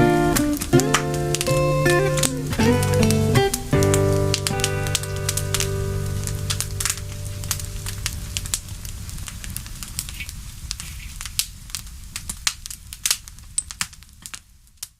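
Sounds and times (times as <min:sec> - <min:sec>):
campfire crackling and popping: 0:00.0 - 0:14.9.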